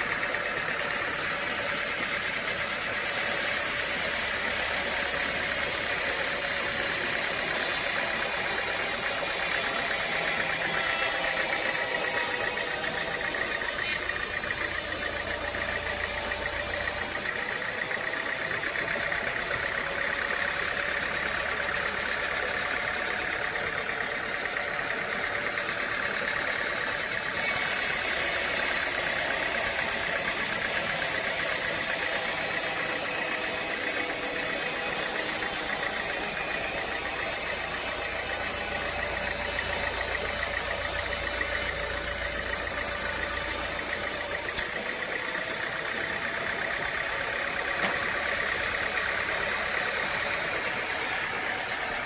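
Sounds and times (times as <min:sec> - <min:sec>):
sawmill machinery running: 0:00.0 - 0:52.0.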